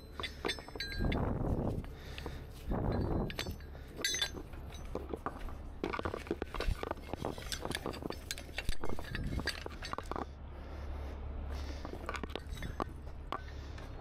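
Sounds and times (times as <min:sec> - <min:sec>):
metal chain clinking and rattling: 0:00.0 - 0:10.4, 0:11.8 - 0:14.0.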